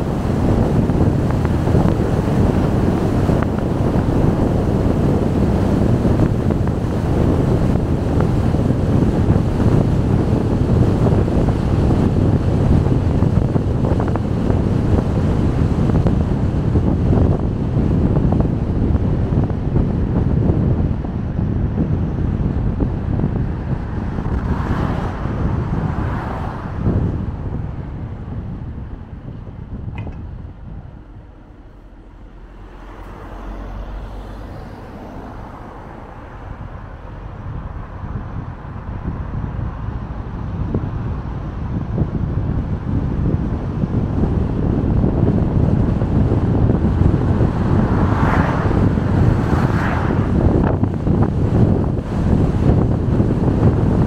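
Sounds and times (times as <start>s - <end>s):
car road noise: 0.0s - 54.0s
rushing wind swell: 0.0s - 54.0s
wind buffeting microphone: 0.0s - 54.0s.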